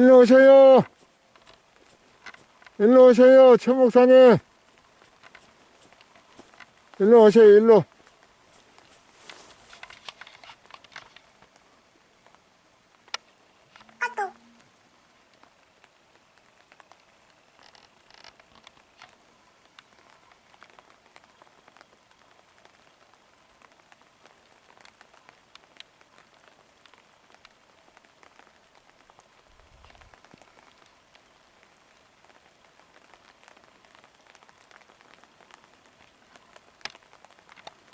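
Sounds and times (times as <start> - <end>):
faint water noise with ticks: 0.0 - 37.9.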